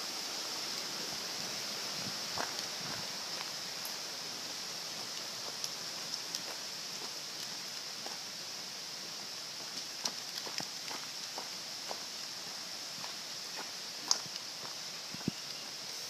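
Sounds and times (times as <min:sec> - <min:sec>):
rainforest hiss: 0:00.0 - 0:16.0.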